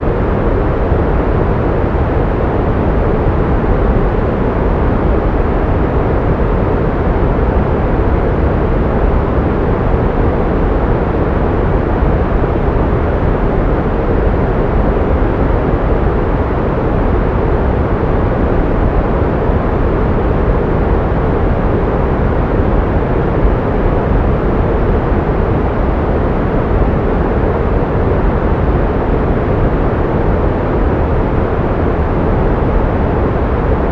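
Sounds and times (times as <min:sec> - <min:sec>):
steady pink noise hiss: 0:00.0 - 0:33.9.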